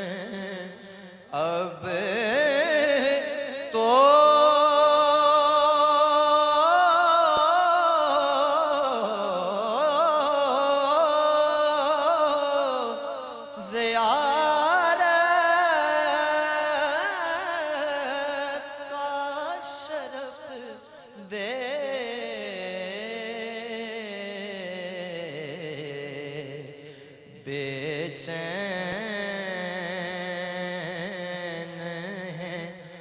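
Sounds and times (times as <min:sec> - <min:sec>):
young man singing into microphone: 0:00.0 - 0:33.0.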